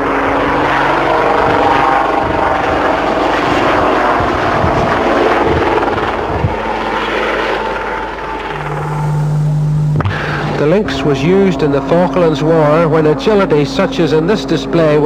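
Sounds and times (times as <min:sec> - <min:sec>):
helicopter rotor and engines: 0:00.0 - 0:15.0.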